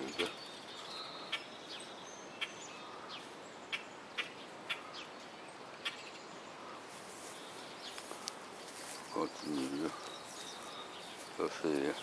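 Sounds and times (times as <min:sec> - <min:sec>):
birds chirping: 0:00.0 - 0:12.0
faint outdoor hiss: 0:00.0 - 0:12.0.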